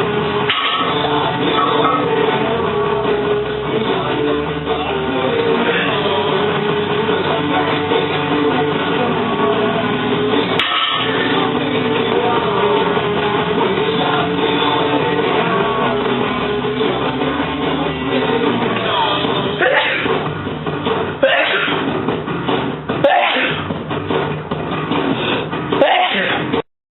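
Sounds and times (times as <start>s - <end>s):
rock music with guitar: 0.0s - 26.6s.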